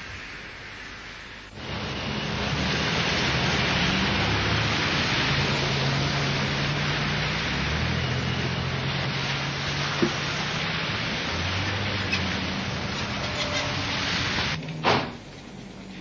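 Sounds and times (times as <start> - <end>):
car engines hum: 0.0 - 16.0
rain hiss: 0.0 - 16.0
tyres on wet pavement: 0.0 - 16.0.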